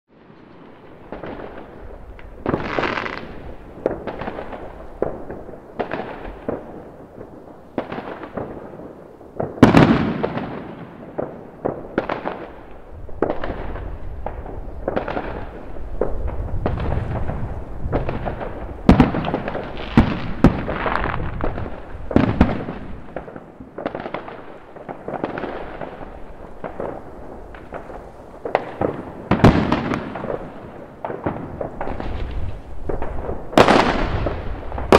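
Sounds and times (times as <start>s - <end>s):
fireworks exploding: 0.1s - 34.9s.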